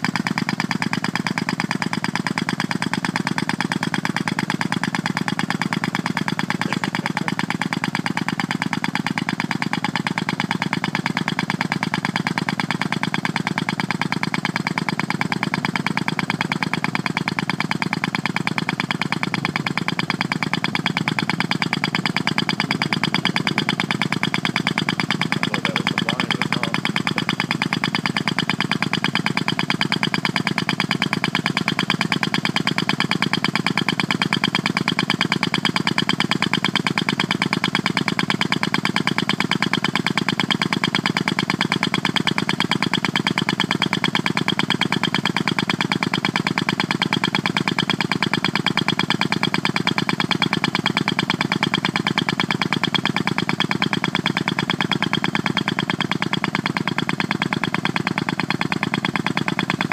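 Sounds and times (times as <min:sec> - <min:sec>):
rapid pulsing mechanical buzz: 0:00.0 - 0:59.9.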